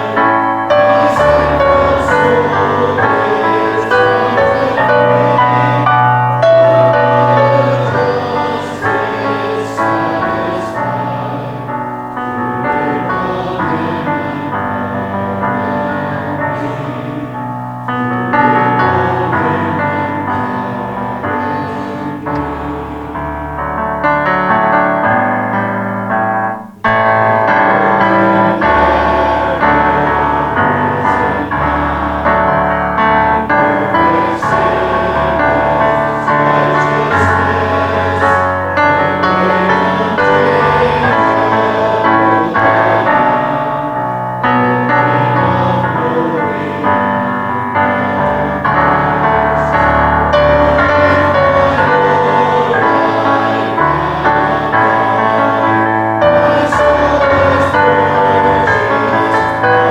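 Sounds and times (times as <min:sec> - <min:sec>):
choir singing a hymn: 0:00.0 - 0:59.9
keyboard accompaniment: 0:00.0 - 0:59.9.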